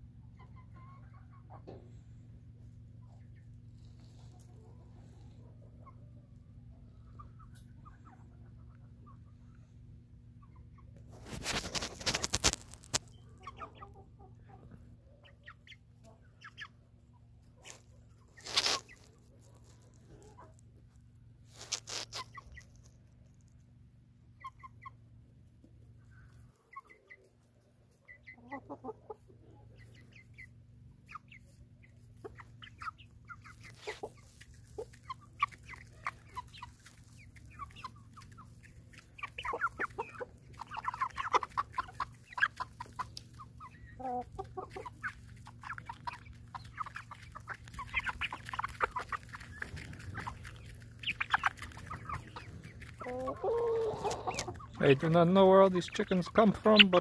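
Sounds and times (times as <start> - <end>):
hens clucking: 0.0 - 57.0
hens pecking corn: 0.4 - 57.0.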